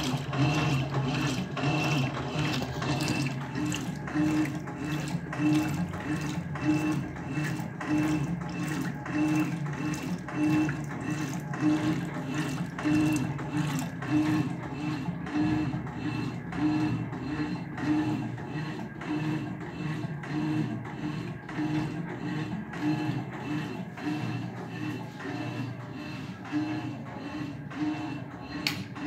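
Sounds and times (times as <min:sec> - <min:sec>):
washing machine agitator churning water: 0:00.0 - 0:29.0.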